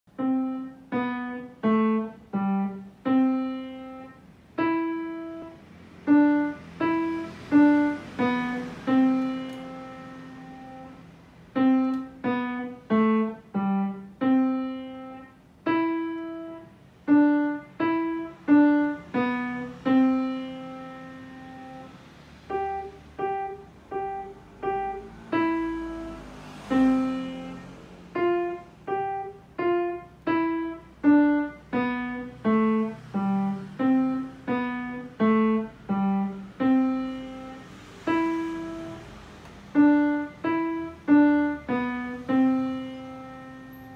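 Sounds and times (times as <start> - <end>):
slow piano melody: 0.1 - 43.9.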